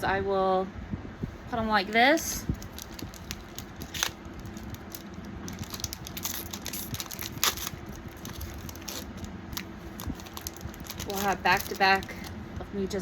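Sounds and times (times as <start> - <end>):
foil packs crinkling: 1.9 - 12.4.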